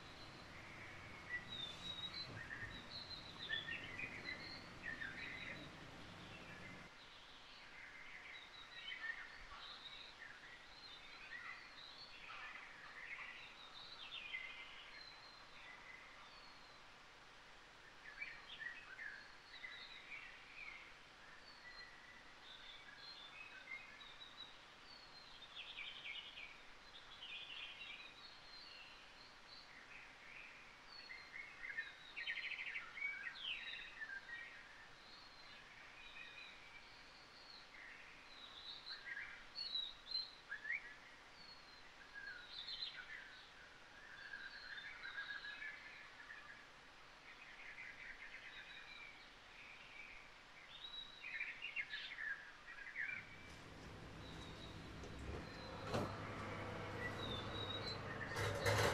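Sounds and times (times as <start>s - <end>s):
small birds chirping and trilling: 0.0s - 58.9s
soft steady hiss: 0.0s - 58.9s.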